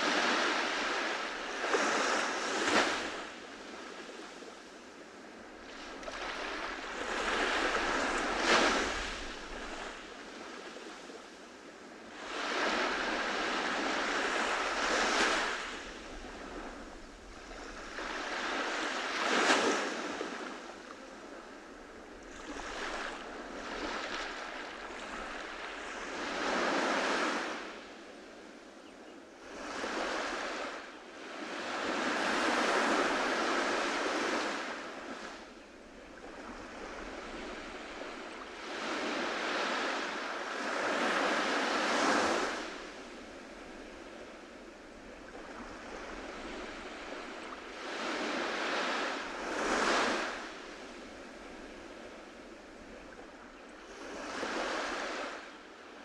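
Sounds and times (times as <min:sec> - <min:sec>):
waves washing up a beach: 0:00.0 - 0:56.0.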